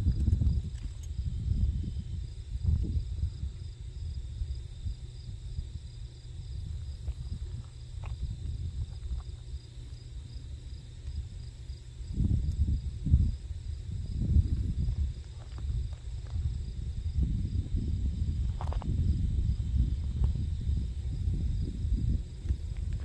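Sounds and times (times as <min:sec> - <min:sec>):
insects chirring: 0:00.0 - 0:23.0
wind buffeting microphone: 0:00.0 - 0:23.0.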